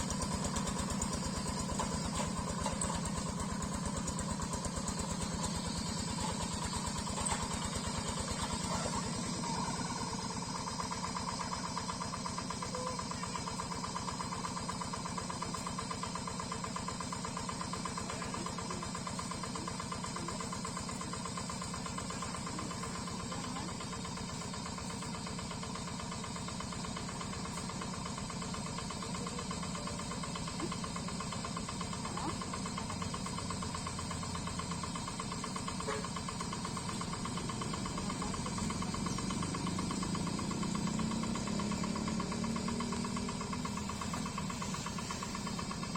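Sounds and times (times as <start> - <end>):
diesel engine running steadily: 0.0 - 45.9.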